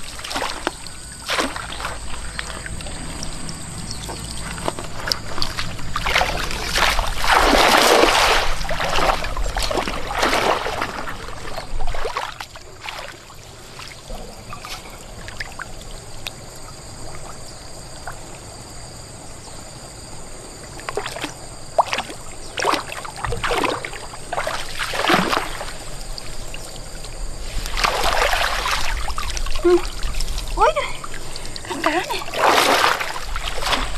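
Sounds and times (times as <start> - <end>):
water splashing and pouring: 0.0 - 16.4, 20.8 - 33.9
water trickling: 0.0 - 18.9, 20.6 - 33.9.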